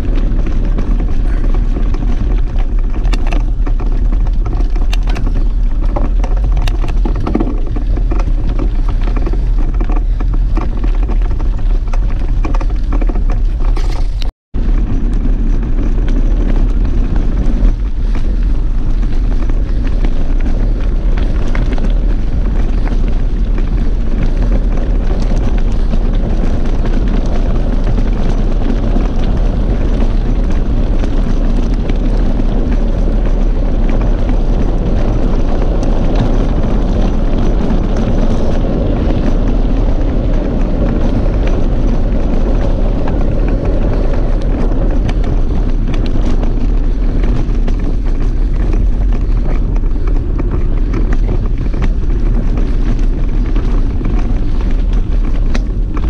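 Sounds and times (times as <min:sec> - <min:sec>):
bike rattling: 0:00.0 - 0:56.0
tyres crunching over gravel: 0:00.0 - 0:56.0
wind buffeting microphone: 0:00.0 - 0:56.0.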